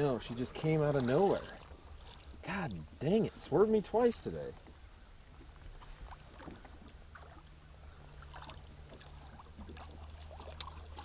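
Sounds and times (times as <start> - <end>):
low steady boat hum: 0.0 - 11.0
water lapping against hull: 0.0 - 11.0.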